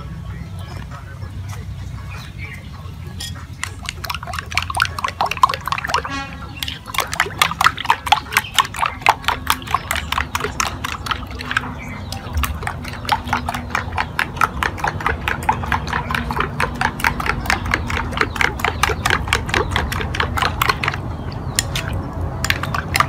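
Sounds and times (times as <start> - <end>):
spoon beating eggs in a bowl: 3.1 - 23.0.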